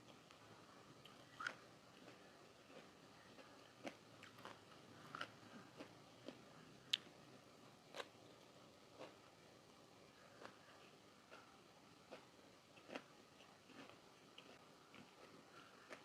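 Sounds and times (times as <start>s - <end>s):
person chewing crunchy food: 1.0s - 7.1s, 7.8s - 9.3s, 10.1s - 16.0s.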